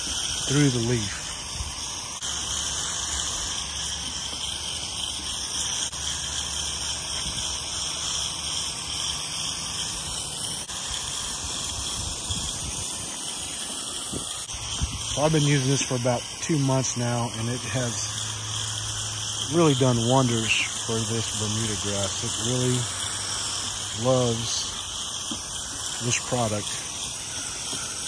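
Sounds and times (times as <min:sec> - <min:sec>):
hose sprayer hissing: 0:00.0 - 0:28.0.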